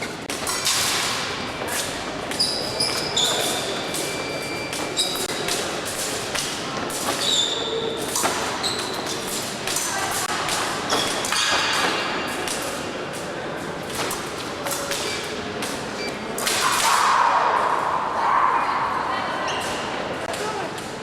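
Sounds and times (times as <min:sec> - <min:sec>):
background chatter: 0:01.1 - 0:21.0.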